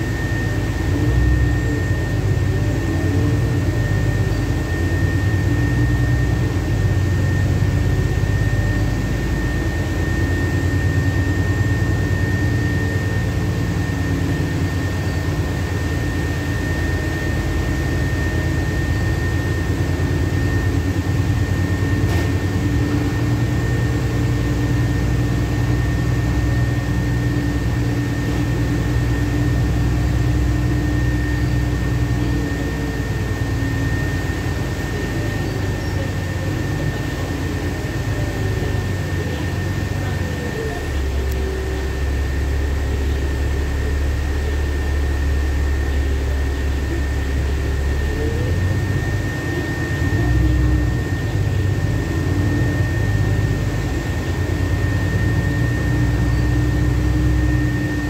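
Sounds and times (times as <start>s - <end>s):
bus engine and tyres rumbling: 0.0s - 57.9s
thin steady whine: 0.0s - 58.0s.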